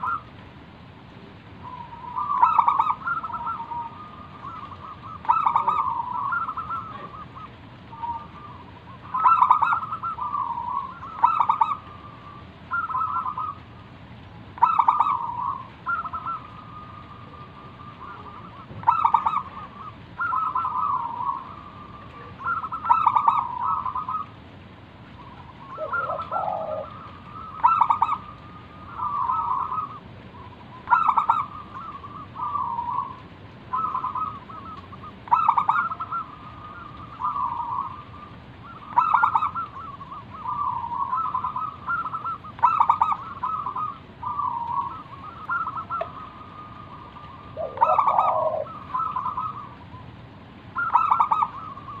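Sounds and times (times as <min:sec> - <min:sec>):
dove cooing: 0:00.0 - 0:00.4, 0:01.2 - 0:52.0
low bird call: 0:00.0 - 0:00.4, 0:01.1 - 0:52.0.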